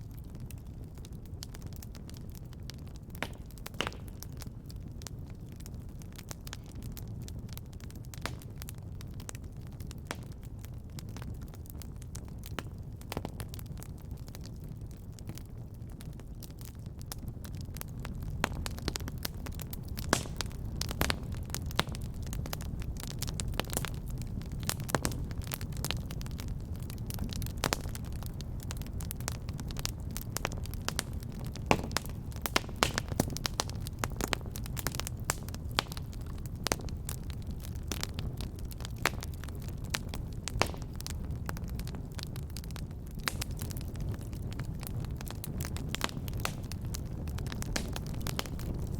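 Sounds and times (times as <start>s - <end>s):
low rumble of flames: 0.0s - 48.9s
wood fire crackling: 0.0s - 48.9s.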